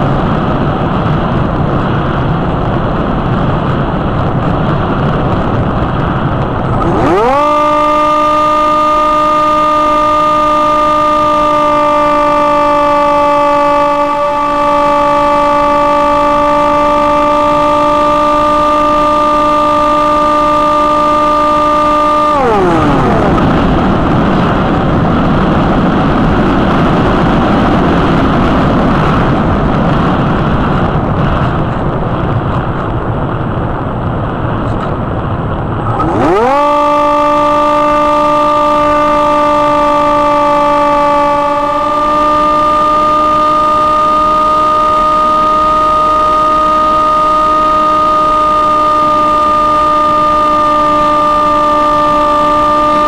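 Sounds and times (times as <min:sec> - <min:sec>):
electric motor and propeller whine: 0:00.0 - 0:53.0
wind rush: 0:00.0 - 0:53.0.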